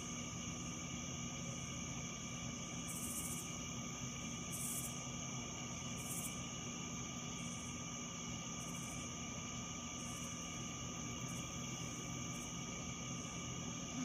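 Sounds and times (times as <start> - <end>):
crickets trilling: 0.0 - 14.0
low steady hum: 0.0 - 14.0.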